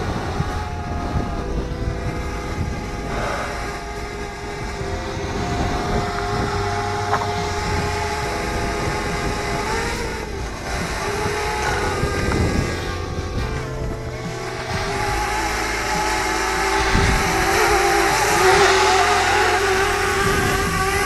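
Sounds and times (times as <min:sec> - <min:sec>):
drone propellers whining: 0:00.0 - 0:21.0
wind rumble on microphone: 0:00.0 - 0:21.0.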